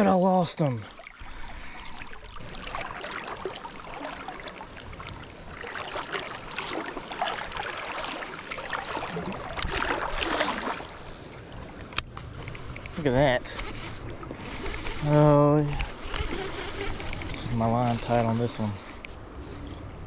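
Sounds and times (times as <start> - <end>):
river water rushing and splashing: 0.6 - 19.6.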